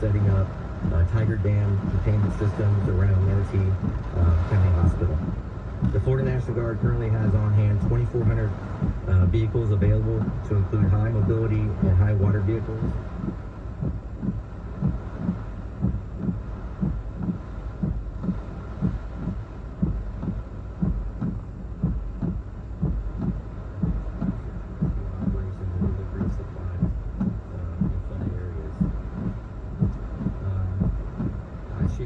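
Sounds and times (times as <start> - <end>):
low rhythmic thumping: 0.0 - 32.0
steady low rumble: 0.0 - 32.0.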